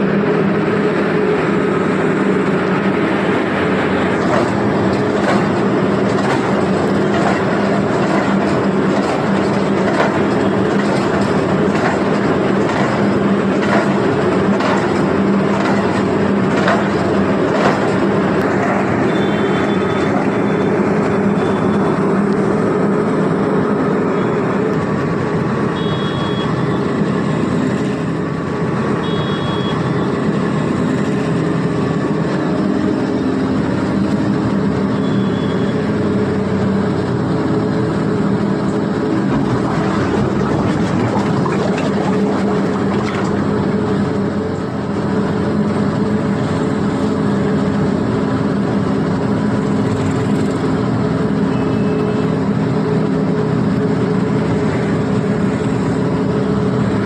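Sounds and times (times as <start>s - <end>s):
construction machine engine running: 0.0s - 57.0s.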